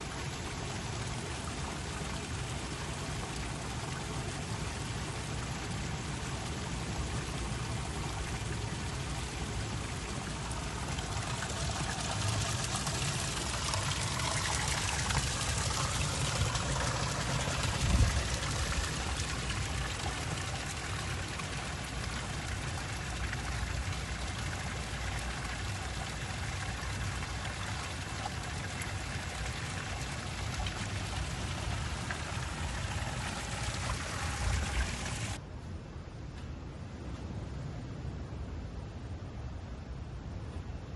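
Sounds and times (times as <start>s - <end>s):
fountain splashing into pool: 0.0s - 35.4s.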